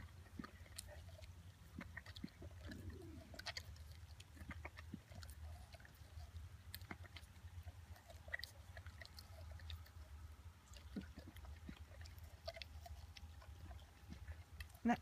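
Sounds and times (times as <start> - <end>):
dog crunching melon: 0.0 - 15.0
low steady hum: 0.0 - 15.0.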